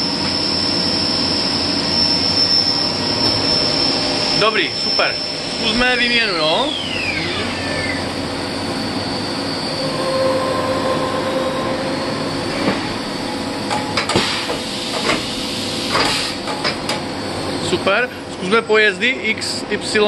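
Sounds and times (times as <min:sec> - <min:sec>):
spindle winding down whine: 0:00.0 - 0:17.8
steady machine hum: 0:00.0 - 0:20.0.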